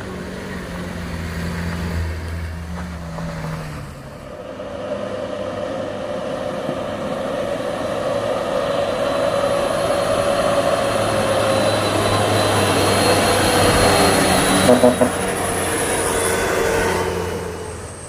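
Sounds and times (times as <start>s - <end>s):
heavy truck engine droning: 0.0s - 18.0s.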